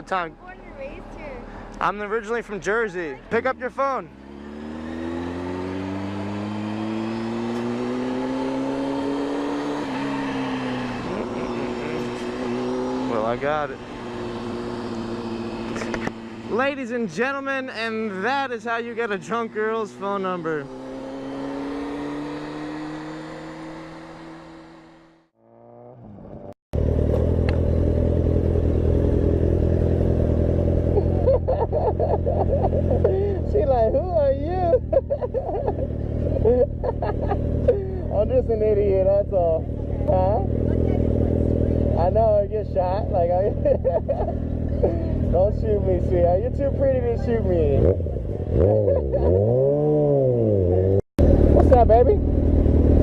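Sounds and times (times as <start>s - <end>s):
wind and road noise: 0.0s - 25.3s, 26.0s - 53.0s
motorcycle engine pulling away: 3.4s - 16.8s, 17.8s - 53.0s.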